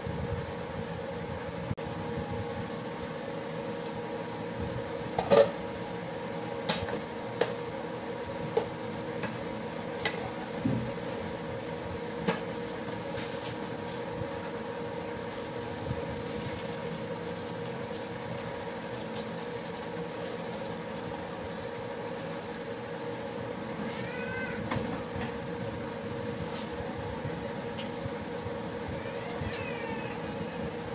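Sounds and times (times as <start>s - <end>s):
electric cooktop hum: 0.0s - 30.9s
broth bubbling in a pot: 0.1s - 30.9s.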